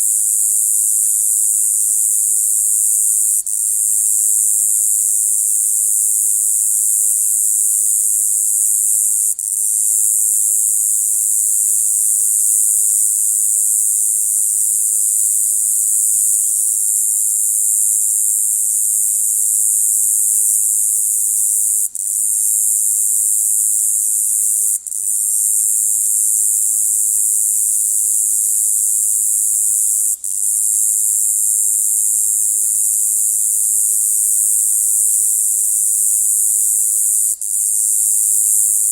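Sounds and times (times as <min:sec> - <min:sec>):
cicada buzzing: 0:00.0 - 0:38.9.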